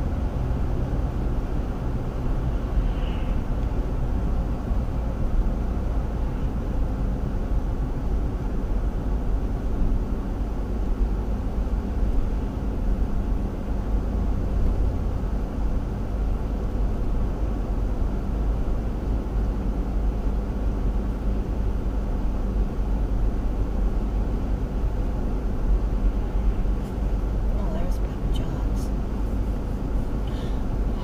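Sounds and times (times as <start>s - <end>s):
vehicle road and engine rumble: 0.0s - 31.0s.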